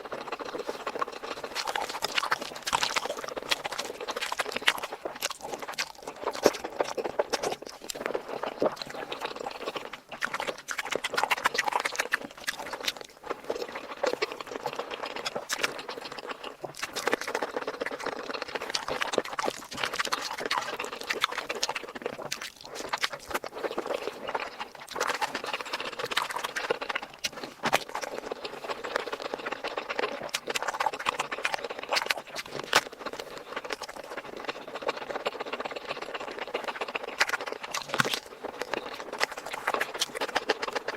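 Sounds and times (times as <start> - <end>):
wet chewing and lip smacking: 0.0 - 40.9.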